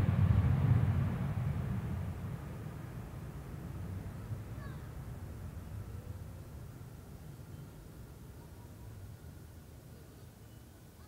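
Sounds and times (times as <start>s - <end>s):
jet engines rumbling: 0.0s - 9.6s.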